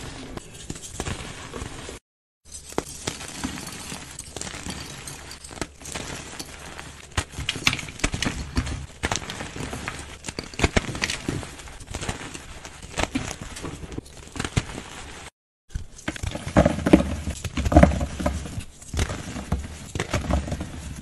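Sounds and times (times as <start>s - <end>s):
chalk crunching and crumbling: 0.0s - 21.0s.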